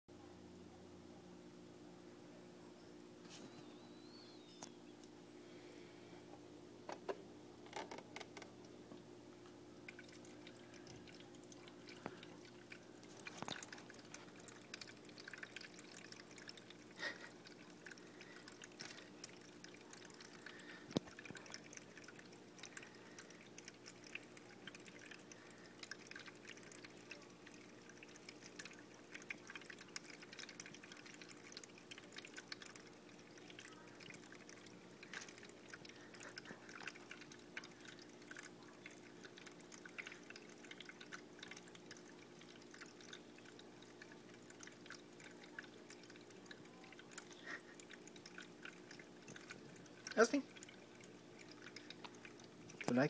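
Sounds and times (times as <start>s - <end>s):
faint pump hum: 0.1s - 53.0s
water trickling and dripping: 8.4s - 53.0s.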